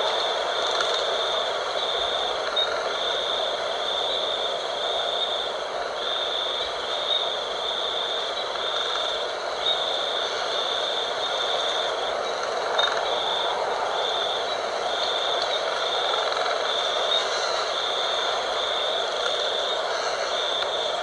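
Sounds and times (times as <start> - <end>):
wind blowing: 0.0 - 21.0.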